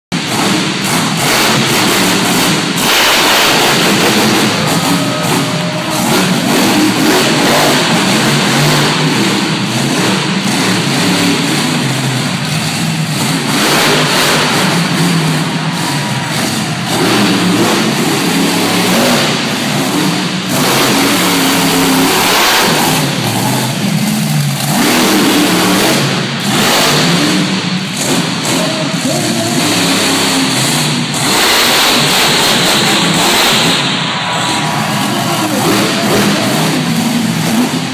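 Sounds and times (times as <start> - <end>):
truck engine revving: 0.1 - 37.9.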